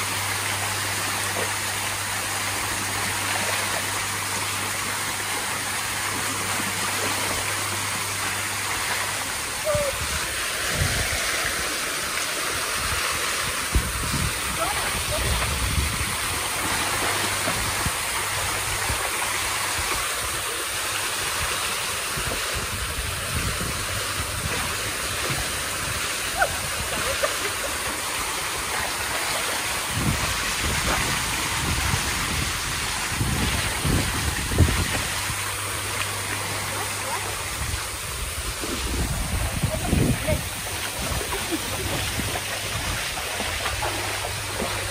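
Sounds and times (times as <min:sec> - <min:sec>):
waterfall splashing into pool: 0:00.0 - 0:44.9.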